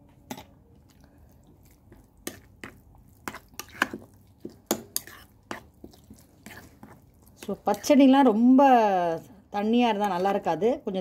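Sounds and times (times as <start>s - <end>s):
wet squishes of mixing: 0.0s - 11.0s.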